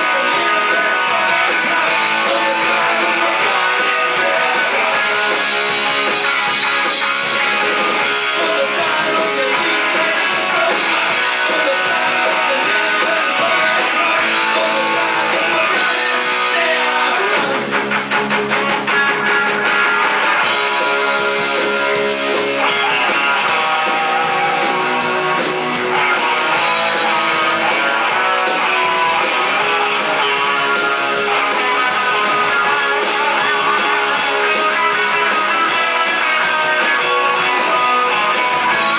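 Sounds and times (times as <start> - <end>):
fast guitar strumming: 0.0 - 38.9
rock band playing: 0.0 - 38.9.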